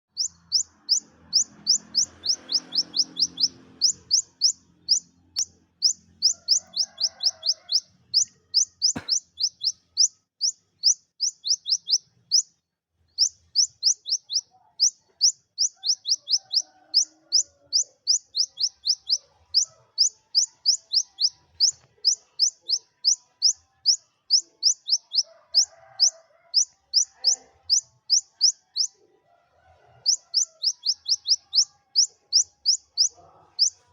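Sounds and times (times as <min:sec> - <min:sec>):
sunbird singing high chirping song: 0:00.1 - 0:12.5, 0:13.2 - 0:29.0, 0:30.1 - 0:33.8.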